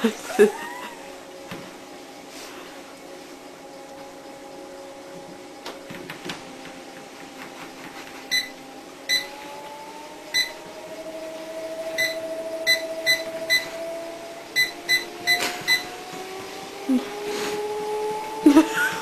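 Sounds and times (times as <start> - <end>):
treadmill motor whine: 0.0 - 19.0.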